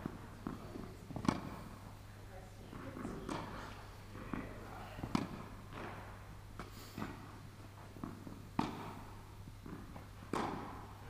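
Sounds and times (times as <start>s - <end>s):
tennis balls struck and bouncing: 0.0s - 2.0s, 2.7s - 11.0s.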